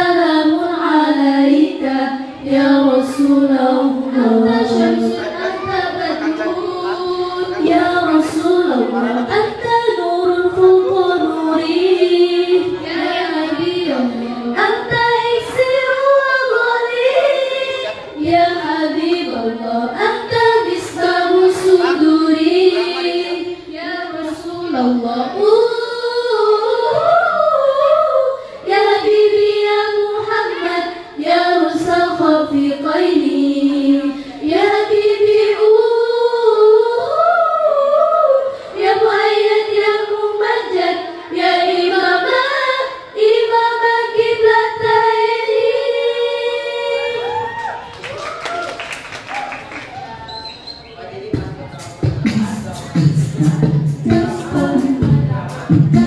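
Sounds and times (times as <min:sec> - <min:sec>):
girls singing a cappella: 0:00.0 - 0:47.8, 0:52.0 - 0:56.0.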